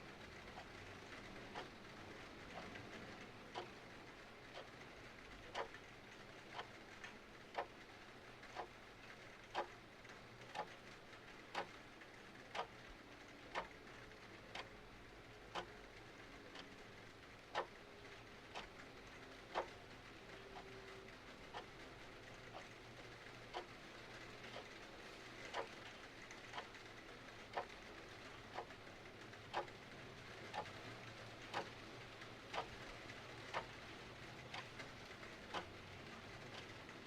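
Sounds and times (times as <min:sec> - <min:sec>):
faint rain hiss: 0:00.0 - 0:37.0
clock ticking: 0:00.4 - 0:01.8, 0:02.5 - 0:04.8, 0:05.5 - 0:07.8, 0:08.5 - 0:09.8, 0:10.4 - 0:11.8, 0:12.5 - 0:13.9, 0:14.5 - 0:14.7, 0:15.5 - 0:15.8, 0:16.4 - 0:24.8, 0:25.5 - 0:37.0.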